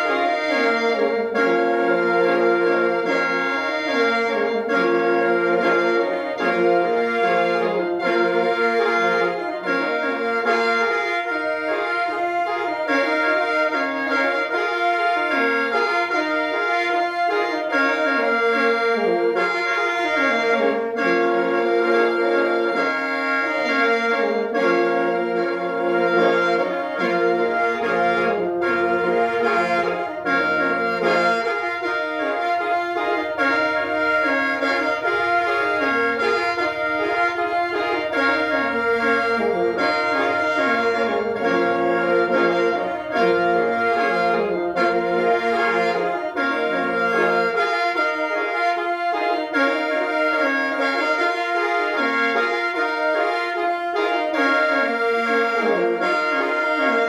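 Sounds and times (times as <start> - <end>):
mouth organ drone: 0.0 - 57.0
reedy mouth organ melody: 0.0 - 57.0.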